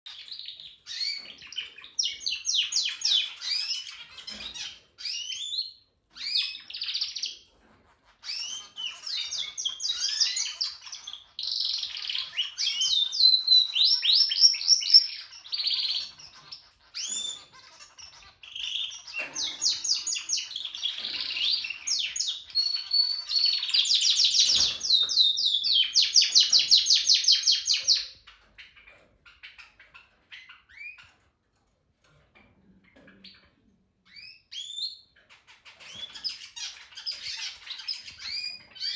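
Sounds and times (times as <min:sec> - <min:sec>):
canary singing trills: 0:00.1 - 0:31.3, 0:32.8 - 0:38.9.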